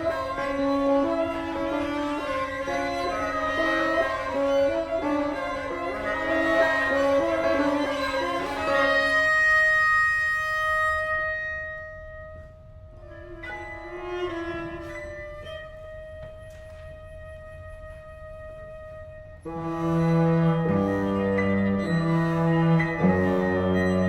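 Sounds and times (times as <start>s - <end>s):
bassoon: 0.0s - 24.0s
bowed strings: 0.0s - 24.0s
chamber ensemble music: 0.0s - 24.0s.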